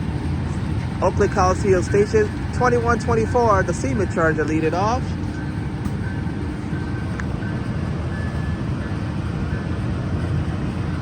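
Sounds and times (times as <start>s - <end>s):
diesel train rumbling: 0.0s - 11.0s
faint steady whine: 0.0s - 11.0s.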